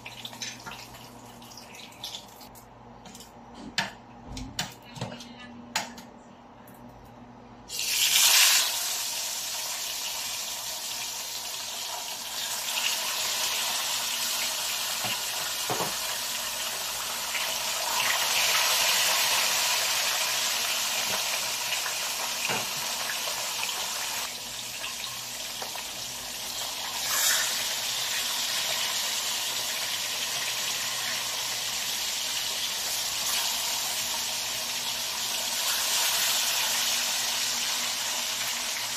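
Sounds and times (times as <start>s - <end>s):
fish sizzling in hot oil: 7.7s - 38.9s.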